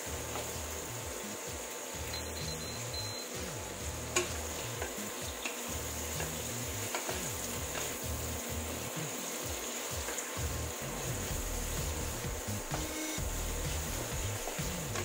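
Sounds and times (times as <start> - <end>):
shrimp sizzling in a wok: 0.0 - 15.0.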